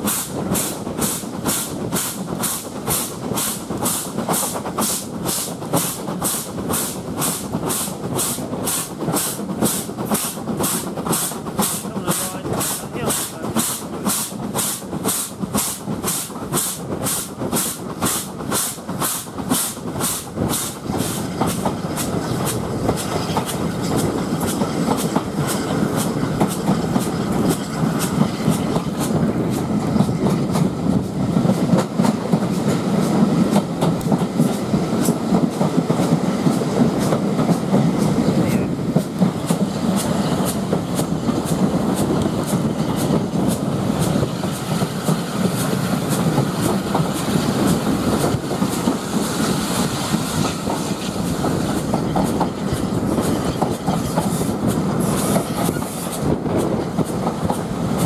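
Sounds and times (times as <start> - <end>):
steam locomotive exhaust beats: 0.0 - 58.0
train wheels clacking on rails: 0.0 - 58.0.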